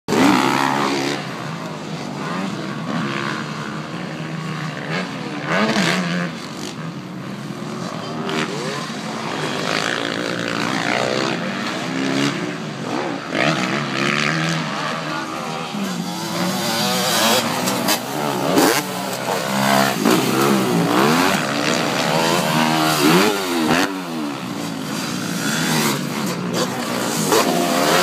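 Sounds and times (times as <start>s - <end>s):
dirt bike engines revving: 0.1s - 28.0s.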